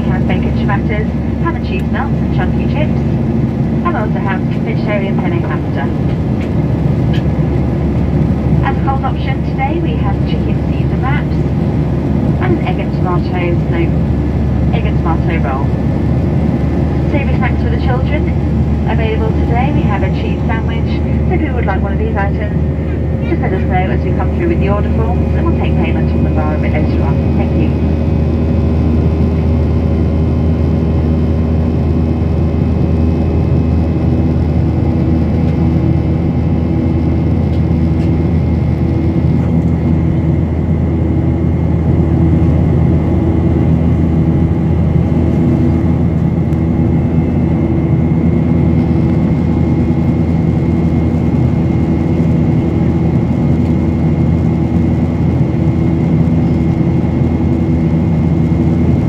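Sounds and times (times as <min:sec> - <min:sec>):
airplane cabin drone: 0:00.0 - 0:59.0
steady hum tones: 0:00.0 - 0:59.0.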